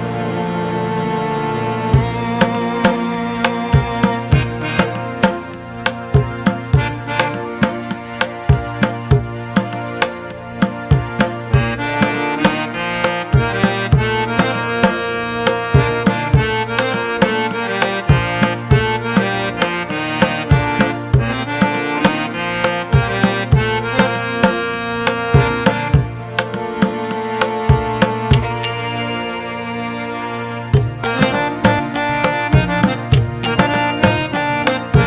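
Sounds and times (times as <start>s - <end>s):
instrumental background music: 0.0s - 35.0s.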